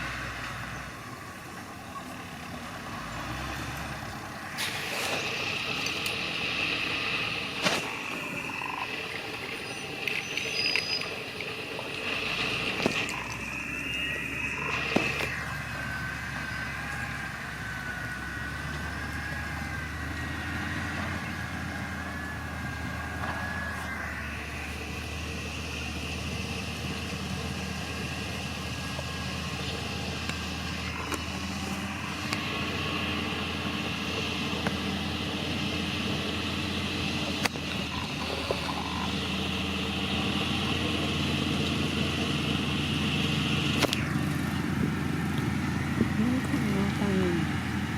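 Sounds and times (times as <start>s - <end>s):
heavy diesel machinery running: 0.0s - 47.9s
thin wavering whine: 0.0s - 47.9s.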